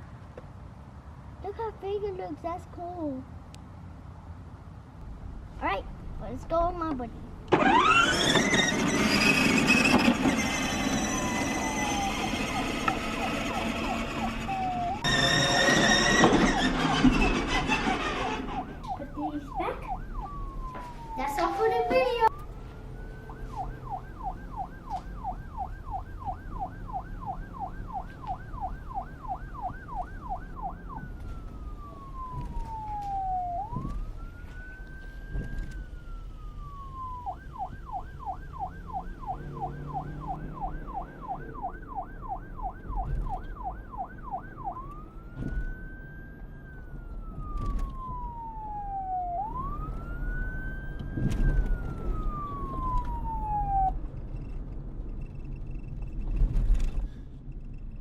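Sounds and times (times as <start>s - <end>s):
electronic police siren: 7.5s - 58.0s.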